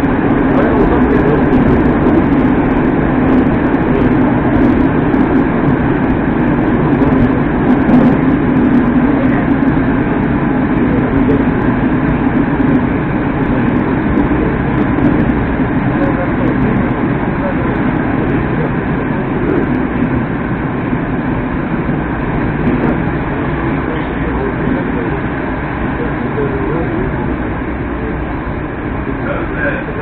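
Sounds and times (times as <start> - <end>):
metro train wheels rumbling on rails: 0.0 - 30.0.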